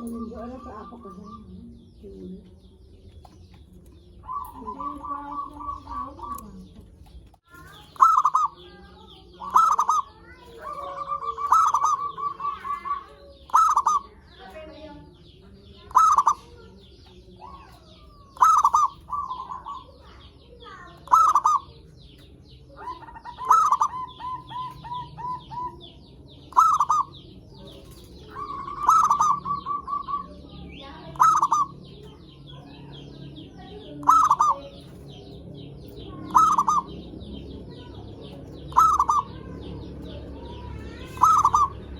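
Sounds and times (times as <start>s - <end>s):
dove cooing: 0.0s - 7.0s, 7.6s - 41.9s
faint high chirping: 0.0s - 41.9s.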